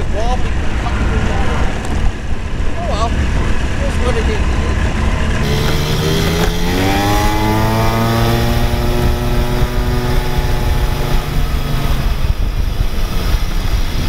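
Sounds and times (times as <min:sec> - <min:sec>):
golf cart engine accelerating: 0:00.0 - 0:14.0
wind rumble on microphone: 0:00.0 - 0:14.0.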